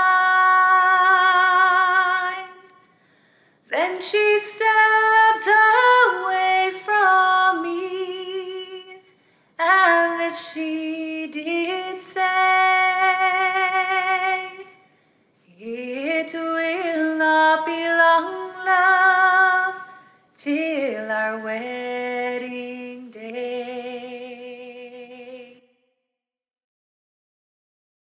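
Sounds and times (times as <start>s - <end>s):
woman singing slowly: 0.0s - 2.8s, 3.7s - 14.8s, 15.5s - 25.7s.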